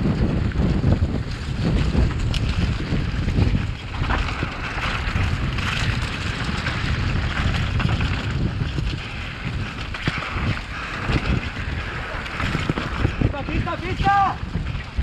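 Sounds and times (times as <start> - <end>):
tyres rumbling on rock: 0.0 - 15.0
wind buffeting microphone: 0.0 - 15.0.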